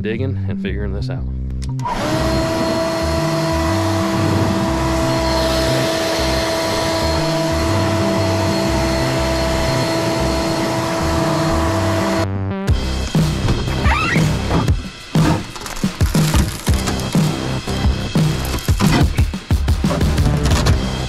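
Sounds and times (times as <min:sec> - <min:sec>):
leaf blower running: 0:01.8 - 0:12.2, 0:12.8 - 0:19.4.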